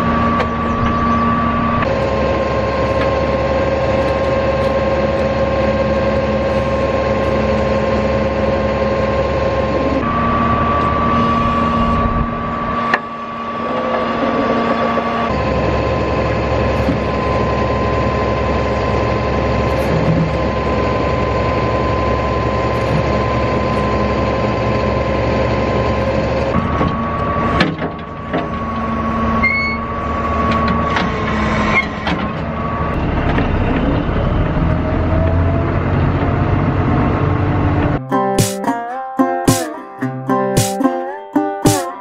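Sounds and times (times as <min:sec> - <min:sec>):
hydraulic whine: 0:00.0 - 0:38.0
truck engine drone: 0:00.0 - 0:42.0.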